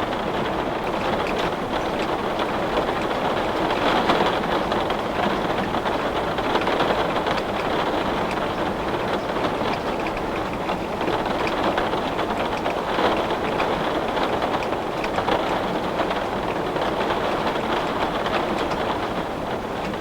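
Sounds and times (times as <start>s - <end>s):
heavy rain on window glass: 0.0s - 20.0s.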